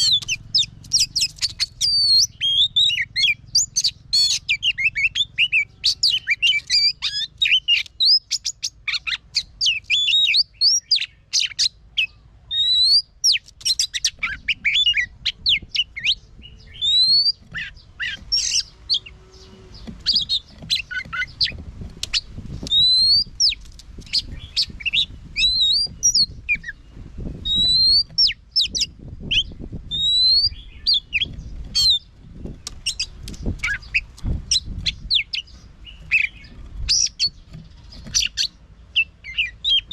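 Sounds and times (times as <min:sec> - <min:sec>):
songbird singing whistled notes: 0:00.0 - 0:39.9.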